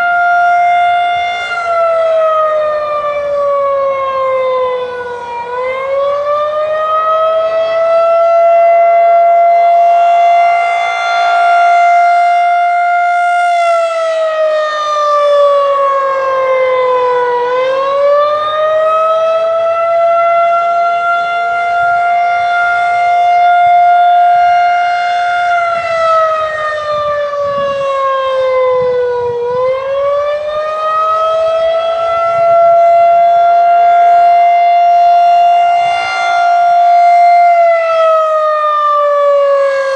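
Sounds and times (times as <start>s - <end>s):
rotating siren winding up and down: 0.0s - 39.9s.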